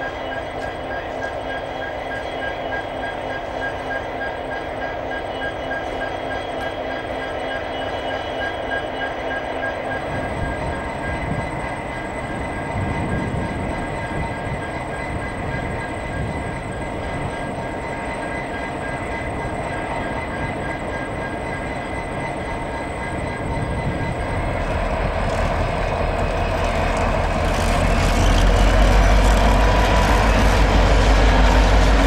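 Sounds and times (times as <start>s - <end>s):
diesel locomotives running: 0.0s - 32.0s.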